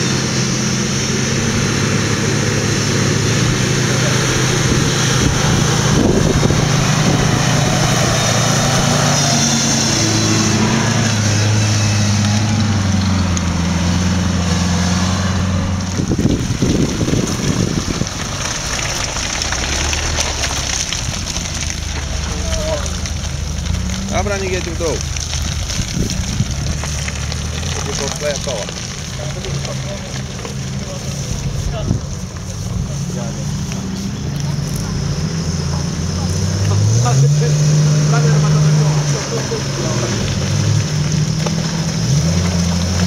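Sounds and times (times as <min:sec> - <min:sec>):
engine revving: 0:00.0 - 0:43.0.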